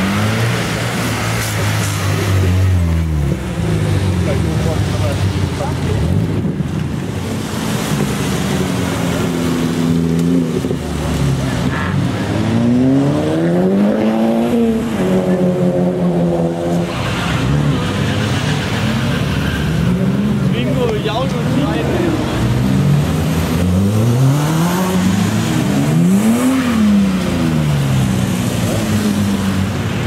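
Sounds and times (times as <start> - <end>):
car engine accelerating: 0.0 - 30.0
cars driving on wet road: 0.0 - 30.0.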